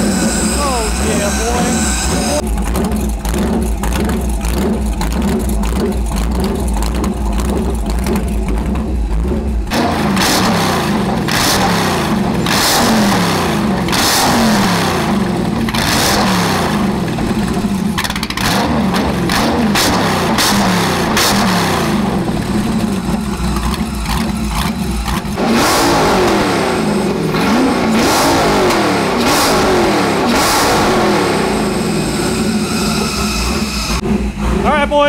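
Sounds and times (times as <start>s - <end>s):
engine revving: 0.0s - 35.0s
stumbling engine running: 0.0s - 35.0s.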